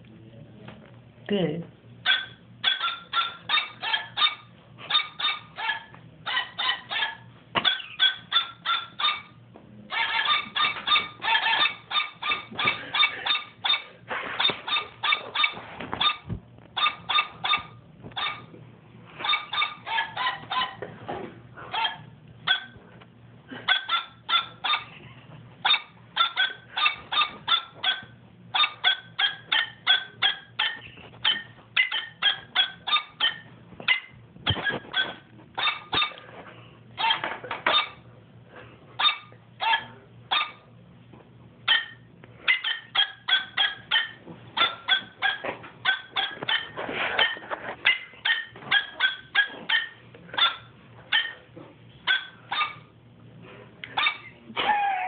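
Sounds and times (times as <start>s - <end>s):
dog-like barks and yips: 2.0s - 18.5s, 19.2s - 20.9s, 21.7s - 22.8s, 23.6s - 24.9s, 25.6s - 36.2s, 37.0s - 38.0s, 39.0s - 40.7s, 41.7s - 51.4s, 52.0s - 52.9s, 54.0s - 55.0s.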